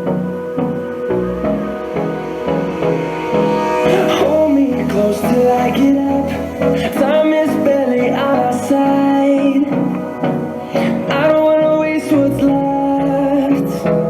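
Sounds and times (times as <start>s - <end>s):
song through portable speaker: 0.0s - 14.0s.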